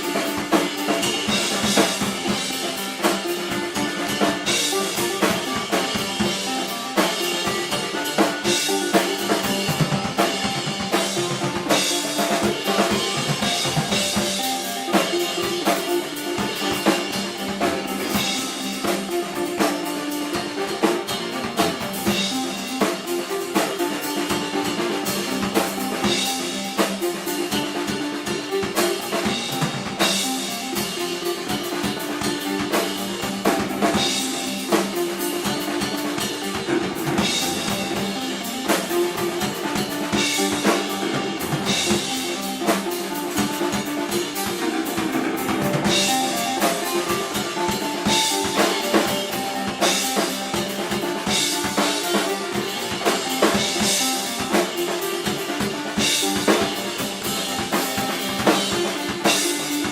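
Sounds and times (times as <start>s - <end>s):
drum kit hits: 0.0s - 59.9s
live band playing: 0.0s - 59.9s.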